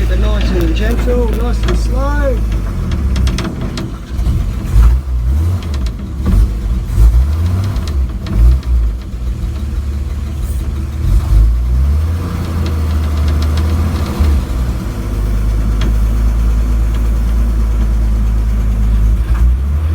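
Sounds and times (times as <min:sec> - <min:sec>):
truck engine at low revs: 0:00.0 - 0:19.9.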